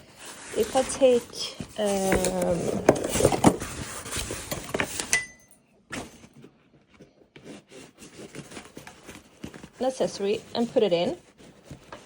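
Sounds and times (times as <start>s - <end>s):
fabric bag rustling: 0.0s - 5.0s, 7.4s - 12.0s.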